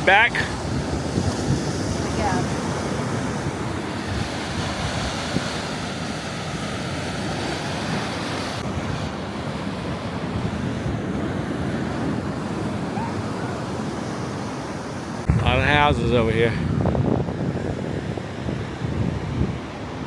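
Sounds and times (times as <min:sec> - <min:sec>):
surf washing on rocky shore: 0:00.0 - 0:20.0
wind buffeting microphone: 0:00.0 - 0:20.0.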